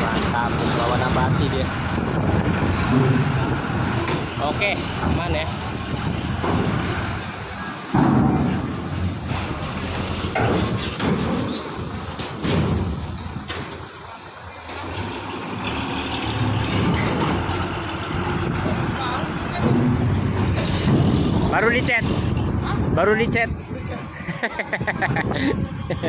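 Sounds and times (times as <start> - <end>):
diesel truck engines pulling away: 0.0 - 26.0.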